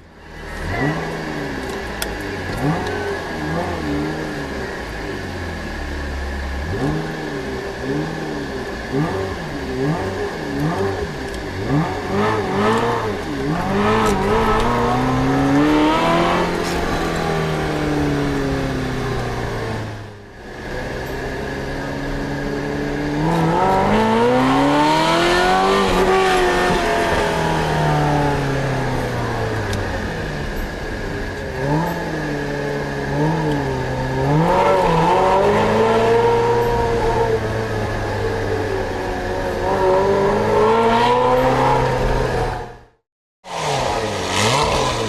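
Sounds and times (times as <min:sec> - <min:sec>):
loud car engine revving: 0:00.0 - 0:45.0.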